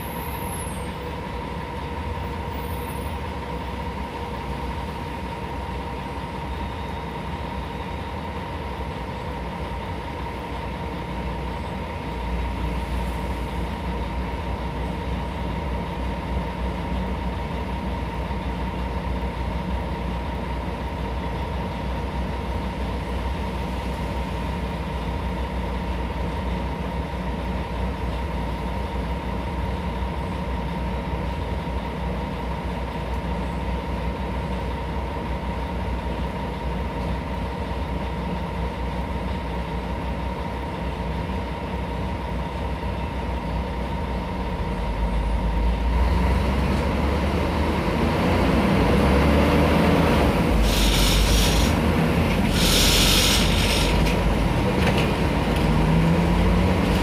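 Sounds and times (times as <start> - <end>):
bus diesel engine: 0.0 - 57.0
road rumble: 0.0 - 57.0.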